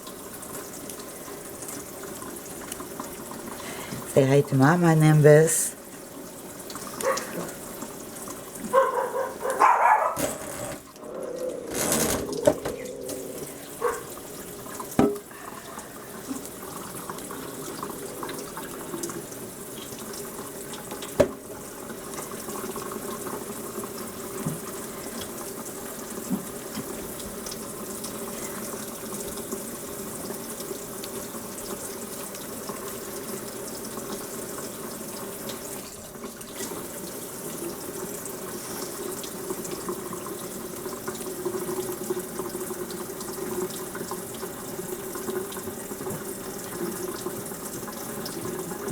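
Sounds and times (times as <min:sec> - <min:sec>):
tap water running: 0:00.0 - 0:48.9.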